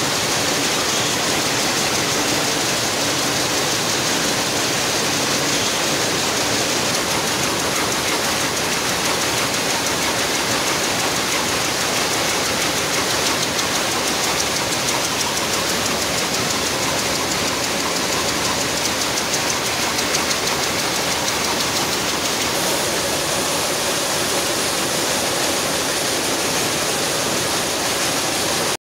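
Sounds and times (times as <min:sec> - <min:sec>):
looms clattering: 0:00.0 - 0:28.7.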